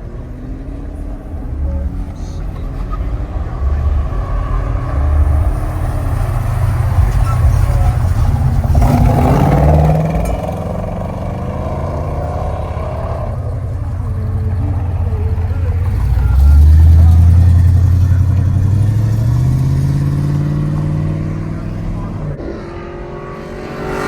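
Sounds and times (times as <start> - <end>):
car engine rumble: 0.0 - 24.0
car revving up: 0.0 - 24.0.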